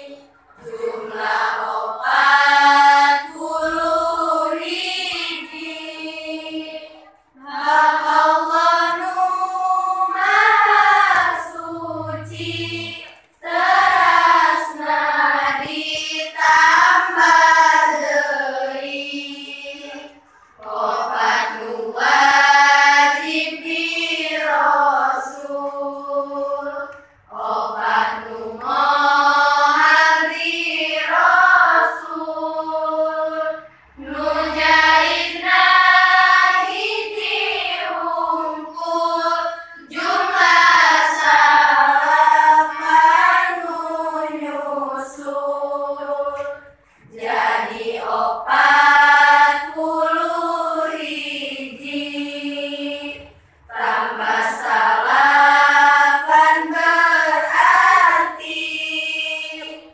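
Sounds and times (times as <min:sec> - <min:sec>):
girls chanting in unison: 0:00.0 - 0:59.9.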